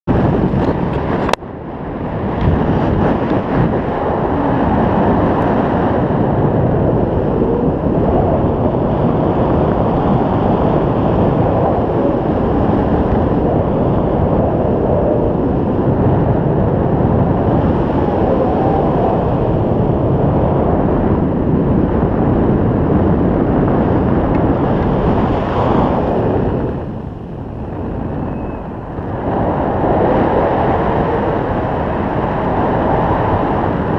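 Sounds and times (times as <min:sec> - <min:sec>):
wind noise on microphone: 0:00.0 - 0:33.9.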